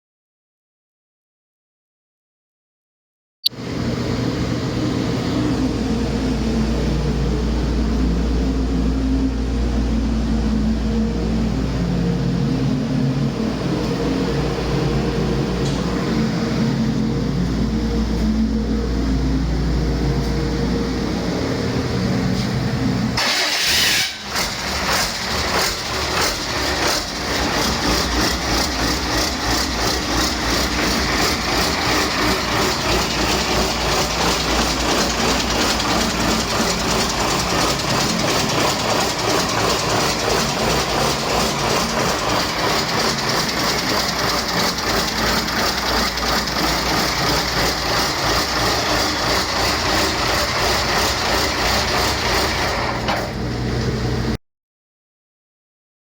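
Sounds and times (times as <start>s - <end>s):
diesel engine starting and idling: 3.5s - 54.4s.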